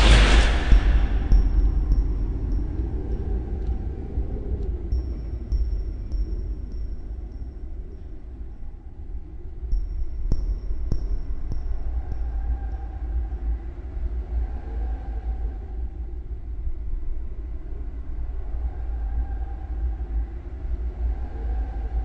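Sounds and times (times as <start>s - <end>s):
deep steady rumble: 0.0s - 22.0s.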